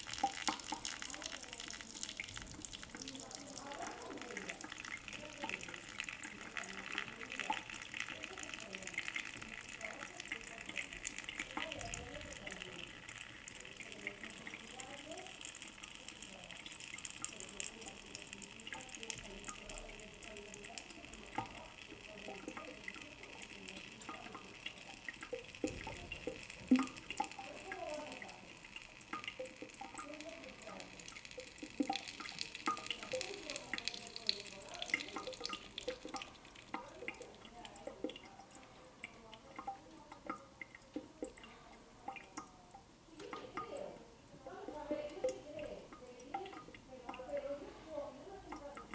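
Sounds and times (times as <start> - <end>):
water drips: 0.0 - 48.9
water trickling into sink: 0.0 - 48.9.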